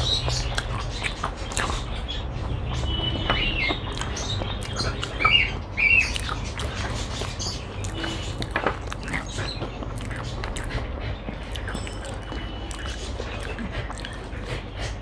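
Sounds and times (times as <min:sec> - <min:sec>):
wet chewing mouth clicks: 0:00.0 - 0:02.1, 0:03.8 - 0:05.4, 0:06.0 - 0:15.0
high chirping squeaks: 0:00.0 - 0:13.6.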